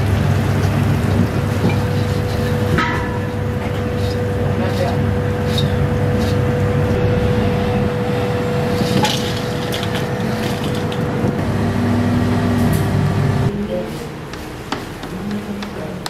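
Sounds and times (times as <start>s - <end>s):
gas stove and exhaust fan drone: 0.0s - 16.0s.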